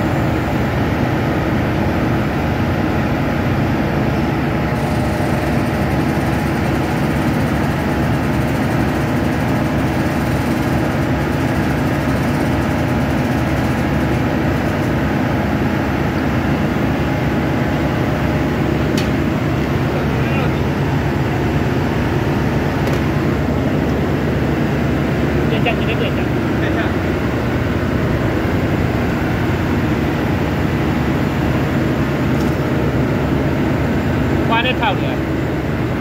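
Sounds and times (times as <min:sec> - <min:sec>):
machinery drone: 0:00.0 - 0:36.0.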